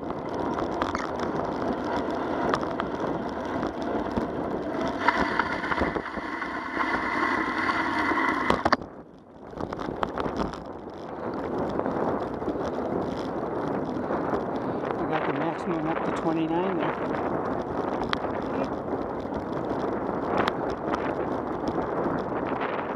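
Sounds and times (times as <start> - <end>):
bicycle tyres on asphalt: 0.0 - 22.9
wind on microphone: 0.0 - 22.9.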